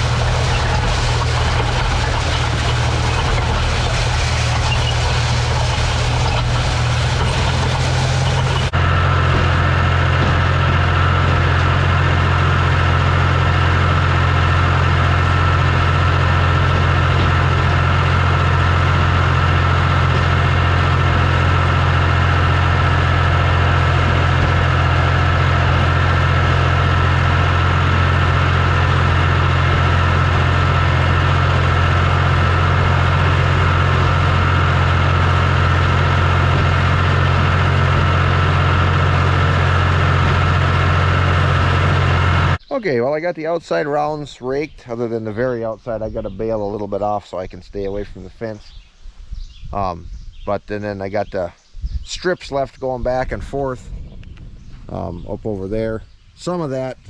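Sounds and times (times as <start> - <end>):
thin steady whine: 0.0 - 51.4
diesel tractor engine running: 0.0 - 51.6, 52.2 - 57.0.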